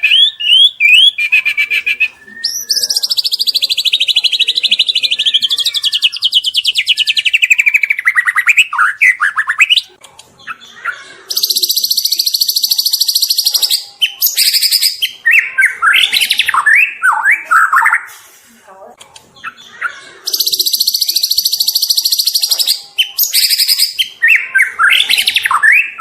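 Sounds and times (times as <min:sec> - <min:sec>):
bird singing fast trills: 0:00.0 - 0:18.1, 0:19.4 - 0:26.0.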